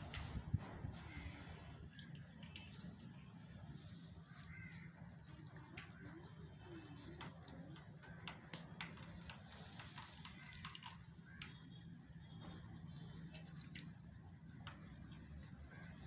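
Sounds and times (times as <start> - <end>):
rabbits chewing grass: 0.0 - 16.0.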